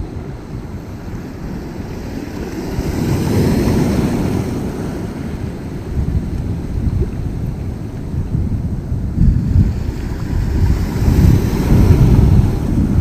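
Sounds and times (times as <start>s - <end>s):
sea waves washing: 0.0s - 13.0s
wind rumbling on microphone: 0.0s - 13.0s.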